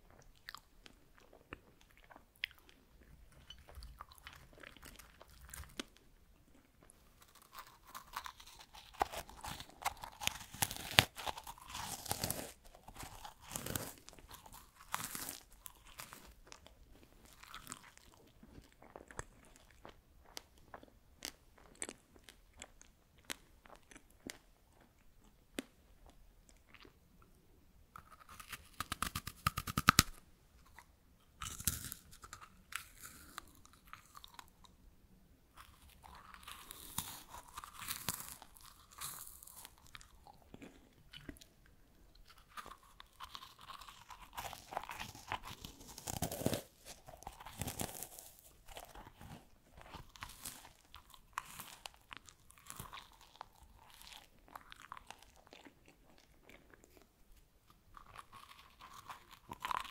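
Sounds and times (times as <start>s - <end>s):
crunching freeze-dried strawberries: 6.6s - 27.0s, 28.0s - 34.7s, 35.5s - 41.5s, 42.2s - 57.1s, 57.7s - 59.9s.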